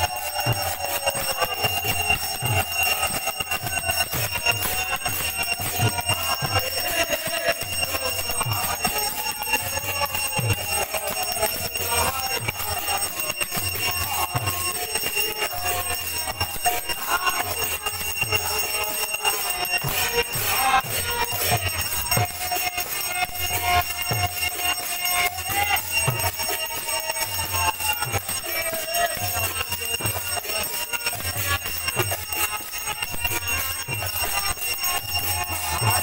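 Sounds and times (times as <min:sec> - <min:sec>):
bells and cymbals clanging: 0:00.0 - 0:36.0.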